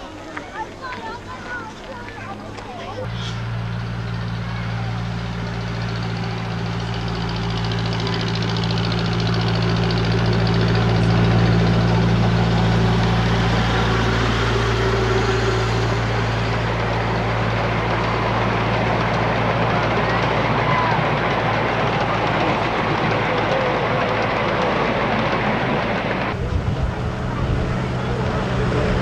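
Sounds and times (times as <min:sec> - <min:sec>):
miniature train engine hum: 0:00.0 - 0:29.0
passenger cars rolling by: 0:00.0 - 0:29.0.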